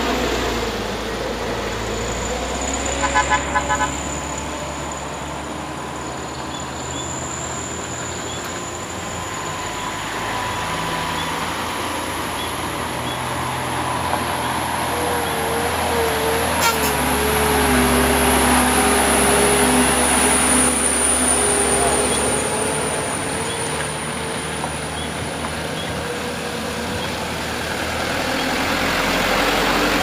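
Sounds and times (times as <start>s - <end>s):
truck diesel engine labouring: 0.0s - 30.0s.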